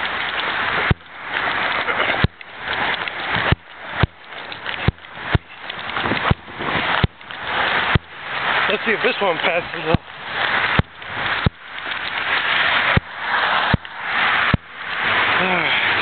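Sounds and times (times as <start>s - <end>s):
street noise hiss: 0.0s - 16.0s.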